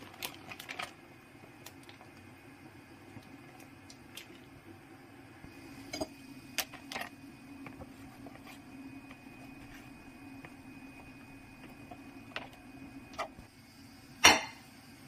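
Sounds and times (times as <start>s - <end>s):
low hum: 2.4s - 15.0s.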